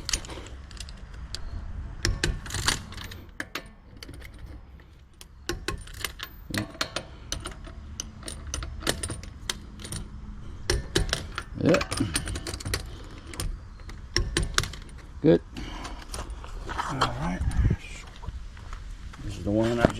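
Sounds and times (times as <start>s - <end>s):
hand tools clicking and clinking: 0.0s - 16.4s.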